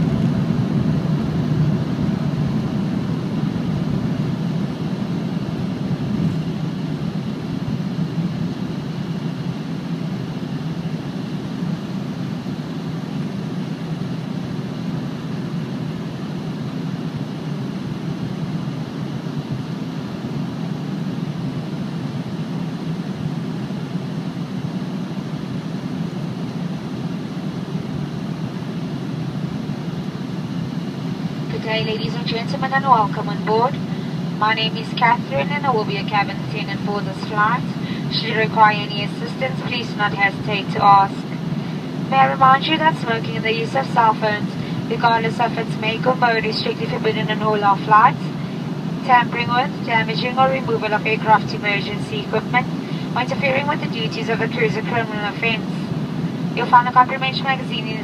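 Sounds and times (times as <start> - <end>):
jet cabin engine drone: 0.0 - 58.0.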